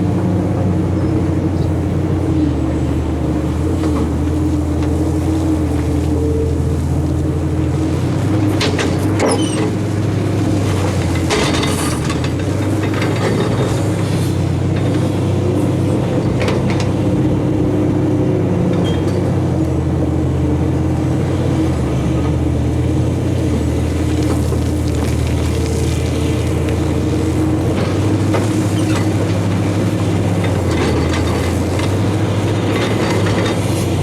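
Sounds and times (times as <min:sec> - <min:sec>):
large diesel engine under load: 0:00.0 - 0:34.0.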